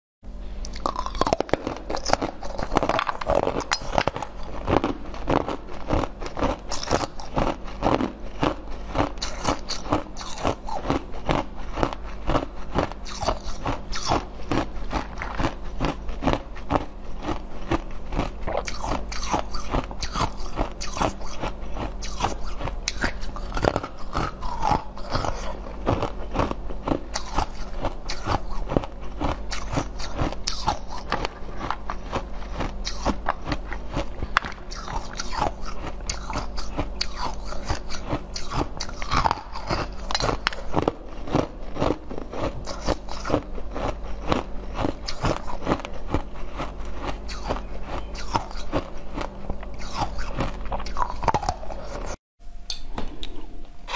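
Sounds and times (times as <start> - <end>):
chewing frozen jelly crunches: 0.6 - 52.2.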